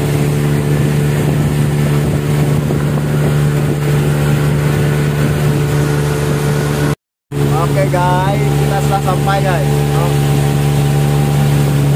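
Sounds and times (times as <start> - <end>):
motorboat engine droning: 0.0 - 11.9
water noise: 0.0 - 11.9
wind: 0.0 - 11.9.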